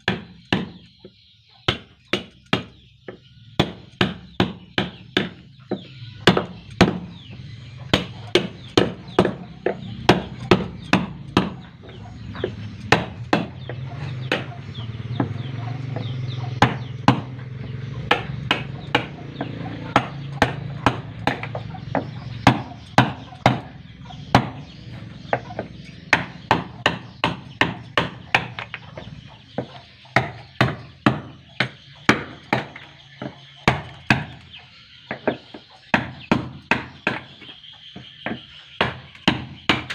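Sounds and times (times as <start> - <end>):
hand tool striking wood: 0.0 - 7.2, 7.9 - 24.7, 25.3 - 34.4, 35.1 - 39.9.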